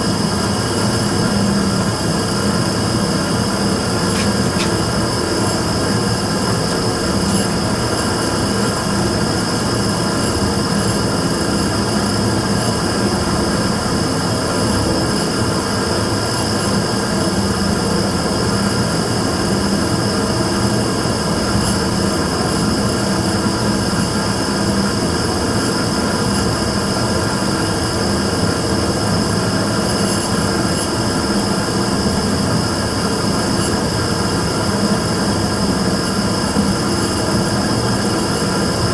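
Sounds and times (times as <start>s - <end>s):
burner running with a hum: 0.0s - 38.9s.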